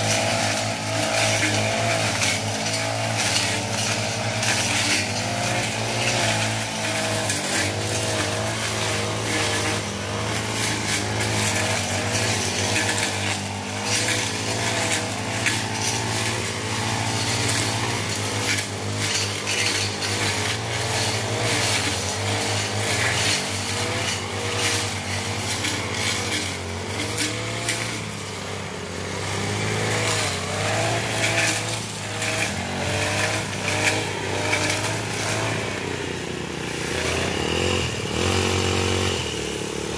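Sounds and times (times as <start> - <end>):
brush cutter engines: 0.0 - 39.9.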